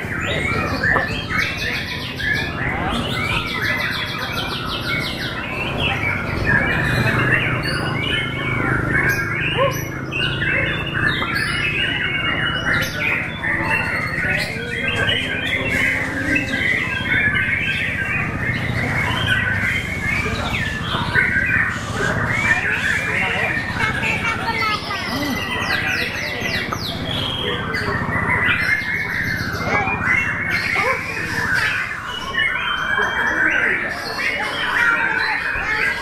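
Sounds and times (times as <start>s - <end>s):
songbirds singing whistles and trills: 0.0s - 36.0s.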